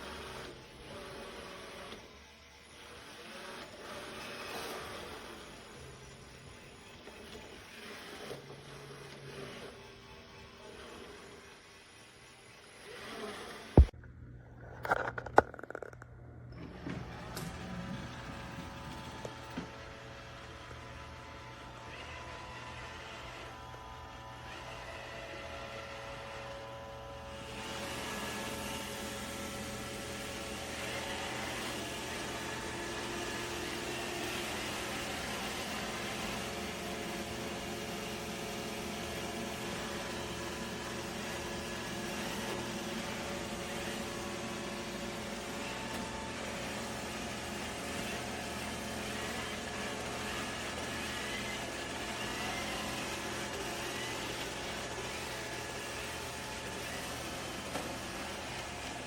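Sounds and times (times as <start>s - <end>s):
mechanical hum and whir: 0.0s - 59.0s.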